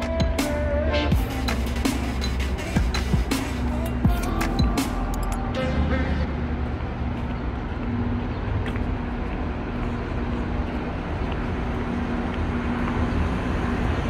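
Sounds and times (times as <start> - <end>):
street ambience rumble and hiss: 0.0 - 14.0.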